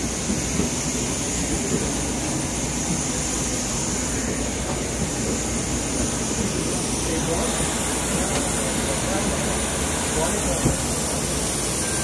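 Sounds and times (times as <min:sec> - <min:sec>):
jet airliner engine rumble and whine: 0:00.0 - 0:12.0.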